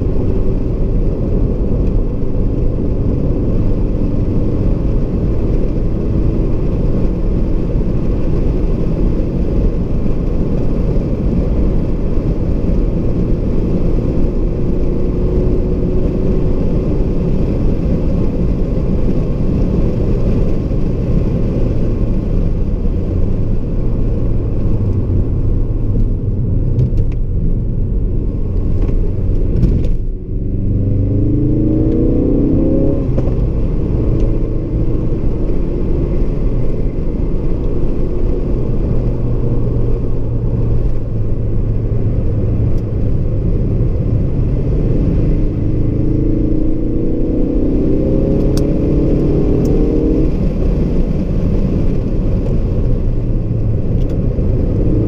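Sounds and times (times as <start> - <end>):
car engine running hard: 0.0 - 55.0
road and wind noise: 0.0 - 55.0.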